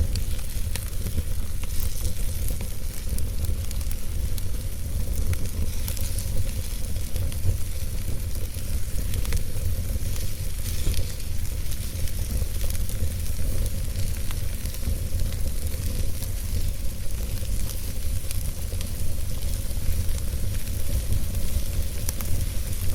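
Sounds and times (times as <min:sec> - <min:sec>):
flames rumbling and hissing: 0:00.0 - 0:22.9
wood crackling and popping: 0:00.0 - 0:22.9.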